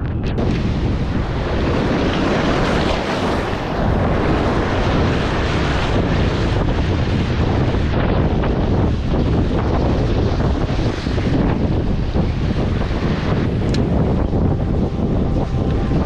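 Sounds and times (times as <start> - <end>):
wind buffeting microphone: 0.0 - 16.0
surf breaking on rocks: 0.4 - 16.0.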